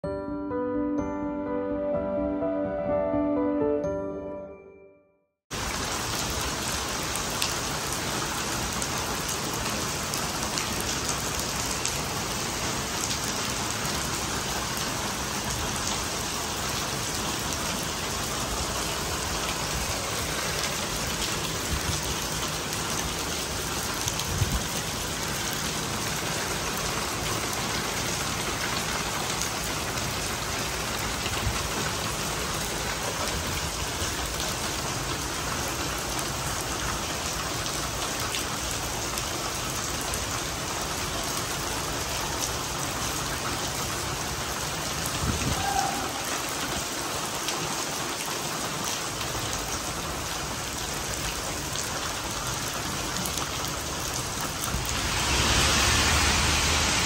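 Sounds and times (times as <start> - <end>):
heavy rain on hard surfaces: 5.5 - 57.0.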